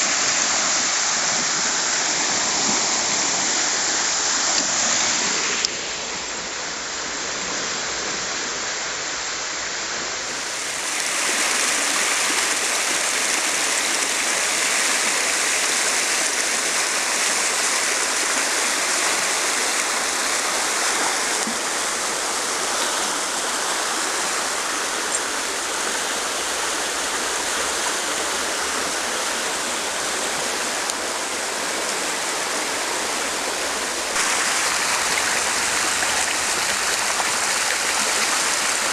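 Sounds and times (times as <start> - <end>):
creek water rushing: 0.0 - 38.9.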